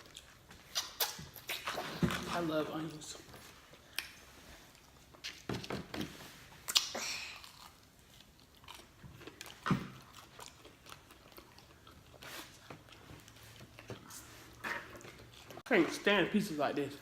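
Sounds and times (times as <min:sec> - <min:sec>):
person chewing a burger: 0:00.0 - 0:02.1, 0:02.9 - 0:15.7.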